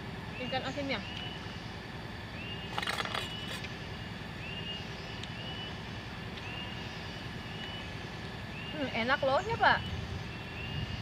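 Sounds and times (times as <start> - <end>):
machine engine humming: 0.0 - 11.0.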